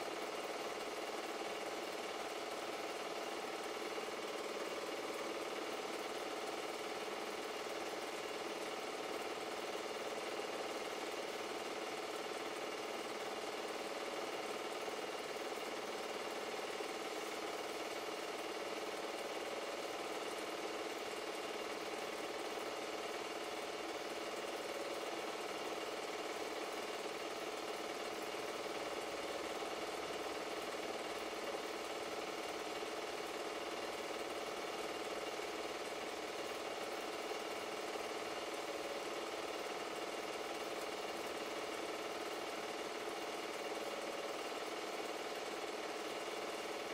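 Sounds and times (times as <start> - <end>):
film projector running: 0.0 - 46.9.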